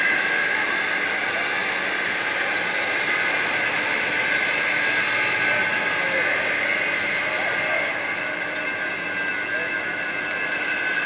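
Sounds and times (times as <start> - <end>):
industrial machinery hum and whine: 0.0 - 11.0.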